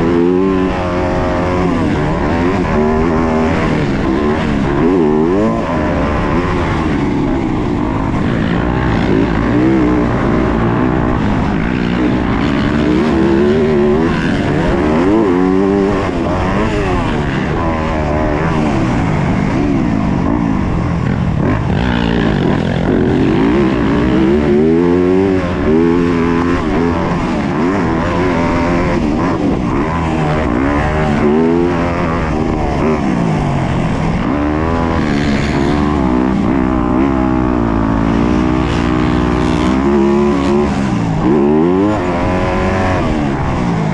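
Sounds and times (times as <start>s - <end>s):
motocross engine revving: 0.0s - 43.9s.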